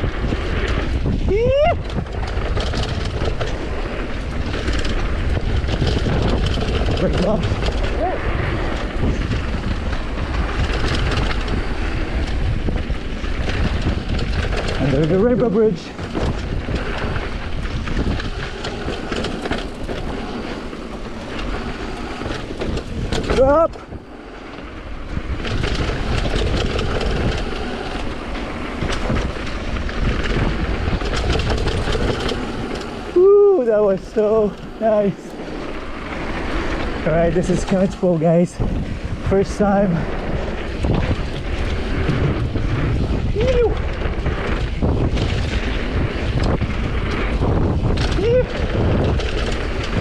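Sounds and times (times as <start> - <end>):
bike chain rattling and clicking: 0.0 - 50.0
bike tyres rolling on dirt: 0.0 - 50.0
wind rumbling on microphone: 0.0 - 50.0.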